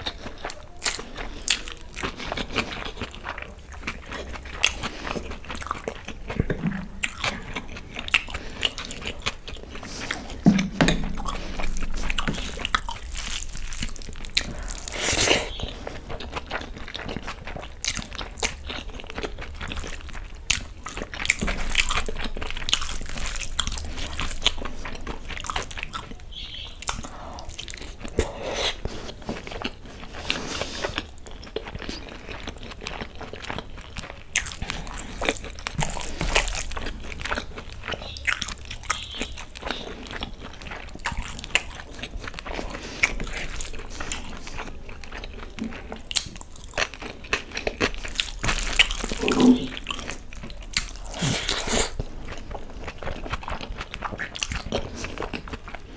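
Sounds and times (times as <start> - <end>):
person chewing with wet mouth sounds: 0.0 - 55.9.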